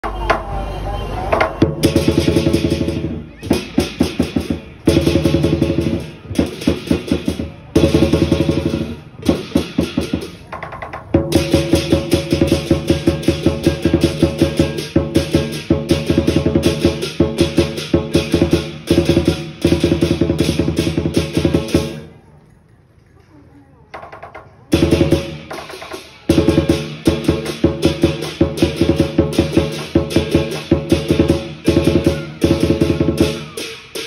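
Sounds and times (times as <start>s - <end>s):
big drum beating: 1.3s - 22.1s, 24.0s - 34.0s.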